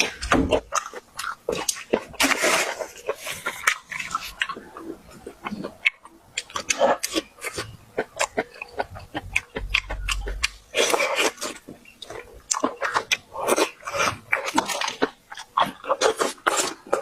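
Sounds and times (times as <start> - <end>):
person chewing and lip smacking: 0.0 - 17.0.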